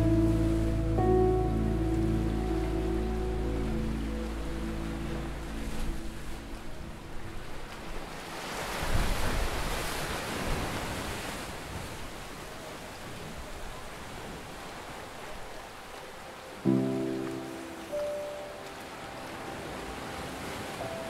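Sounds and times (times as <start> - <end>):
ocean wave breaking: 0.0 - 21.0.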